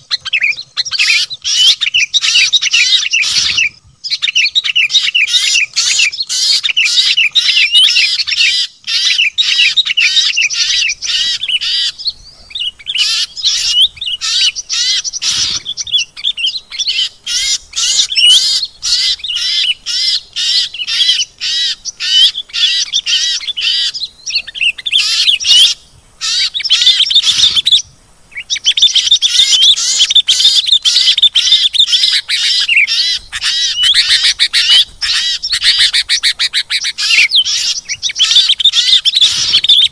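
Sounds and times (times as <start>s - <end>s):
small songbirds chattering and chirping: 0.0s - 39.9s.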